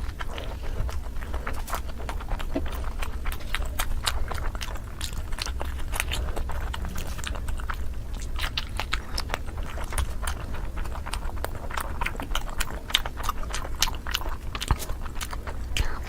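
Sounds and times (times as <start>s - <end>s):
low steady hum: 0.0s - 16.0s
wet chewing smacks: 0.0s - 16.0s.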